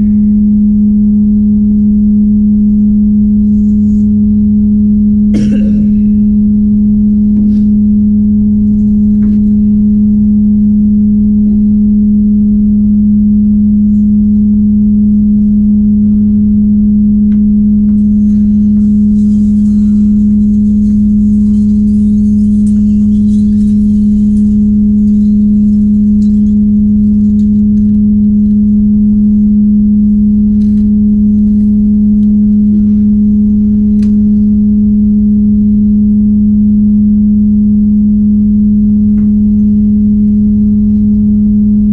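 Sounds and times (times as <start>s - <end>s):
loud steady low hum: 0.0s - 41.9s.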